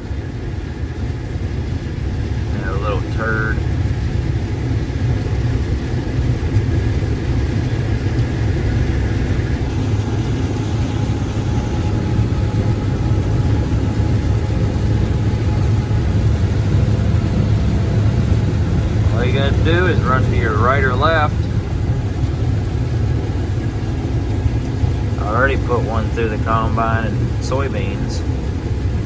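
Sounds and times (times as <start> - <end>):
combine harvester engine drone: 0.0 - 29.0
faint steady whines: 0.0 - 29.0.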